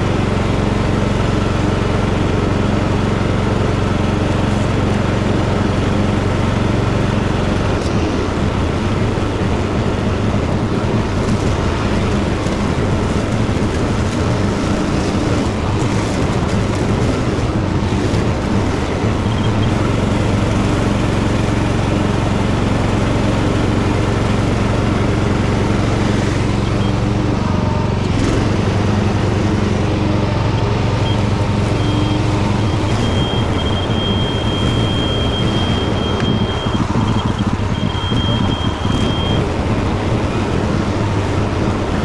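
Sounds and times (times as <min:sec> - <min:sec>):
tractor engine mowing: 0:00.0 - 0:42.0.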